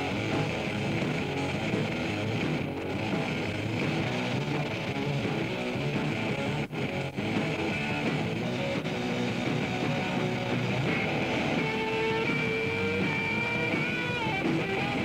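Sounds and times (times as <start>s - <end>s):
soundtrack music with guitar: 0.0s - 15.0s.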